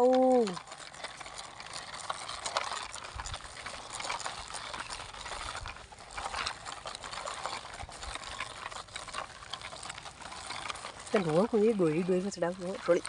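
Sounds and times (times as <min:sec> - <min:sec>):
plastic toy vehicle rattling: 0:00.0 - 0:13.0.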